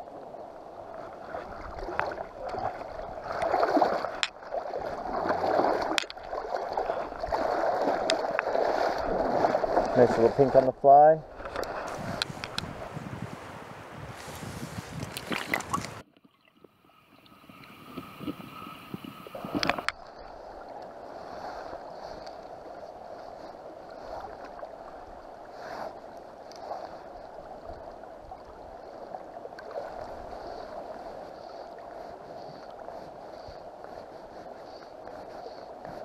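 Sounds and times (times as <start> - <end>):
muffled underwater water sound: 0.0 - 36.0
river current rushing and gurgling: 0.0 - 36.0.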